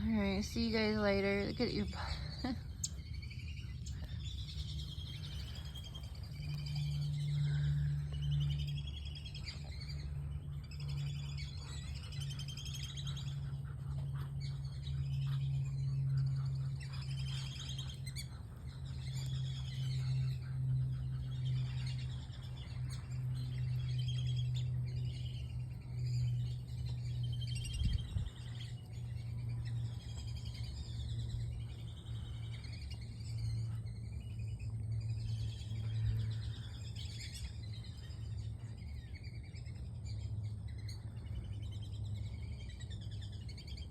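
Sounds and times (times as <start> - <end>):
birds chirping: 0.0 - 43.9
steady low hum: 0.0 - 43.9.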